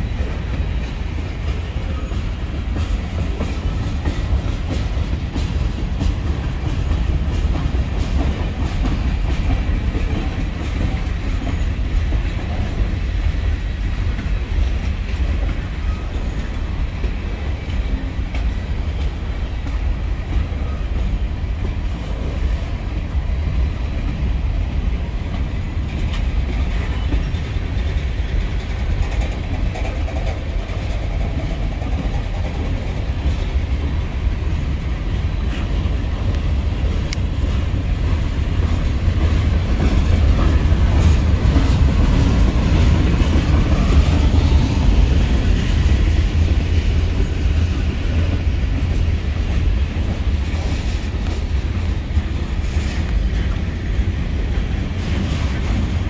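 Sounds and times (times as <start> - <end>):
freight train wheels rumbling: 0.0 - 56.0
rail clicks: 0.0 - 56.0.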